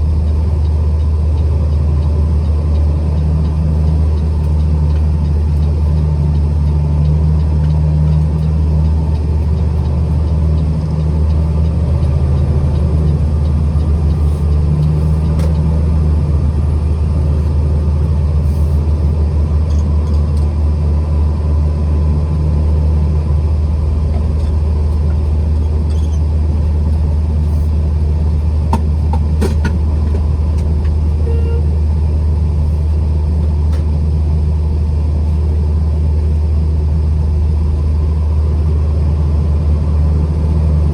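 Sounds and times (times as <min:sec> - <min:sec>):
truck engine and road rumble: 0:00.0 - 0:40.9.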